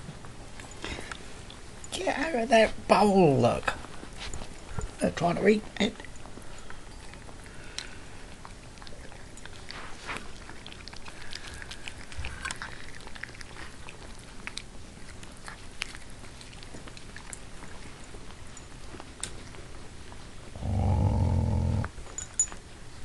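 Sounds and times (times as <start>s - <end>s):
puppies chewing food: 0.0s - 23.0s.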